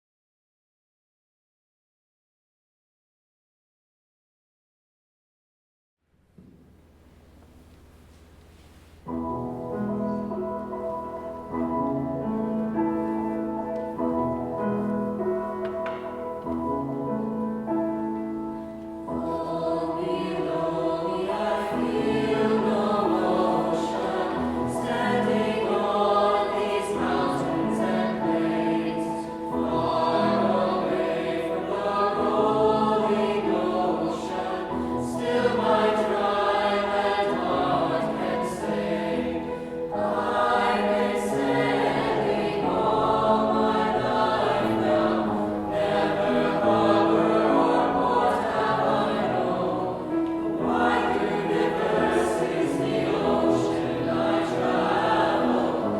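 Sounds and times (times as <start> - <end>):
instrumental accompaniment: 6.6 - 55.9
choir singing: 9.7 - 55.9.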